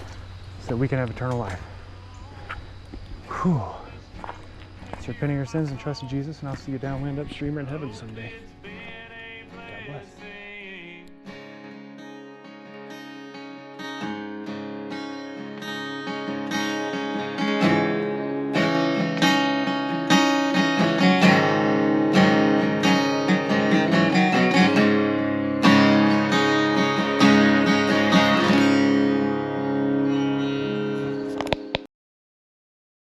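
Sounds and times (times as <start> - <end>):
acoustic guitar music: 2.7 - 31.9.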